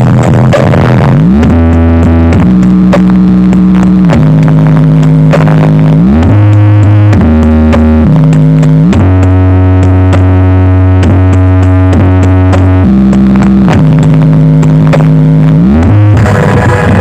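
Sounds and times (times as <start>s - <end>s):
loud synth music with bass: 0.0s - 17.0s.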